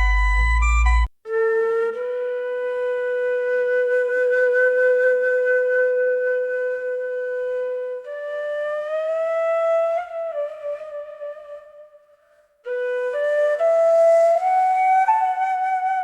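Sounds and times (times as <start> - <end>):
bamboo flute playing: 0.0 - 16.0.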